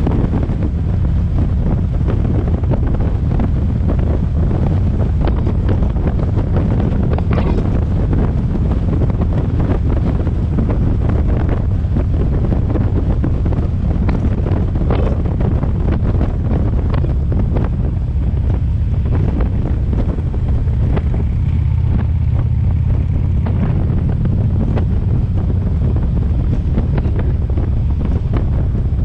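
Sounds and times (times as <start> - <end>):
car road rumble: 0.0 - 29.0
wind buffeting microphone: 0.0 - 29.0.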